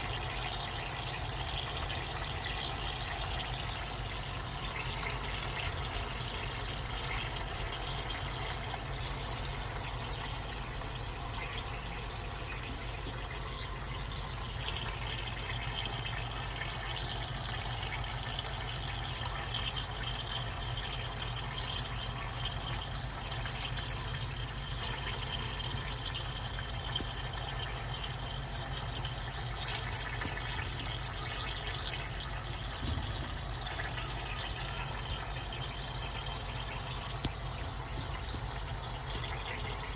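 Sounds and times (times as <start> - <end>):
dry ice bubbling and fizzing: 0.0 - 39.9.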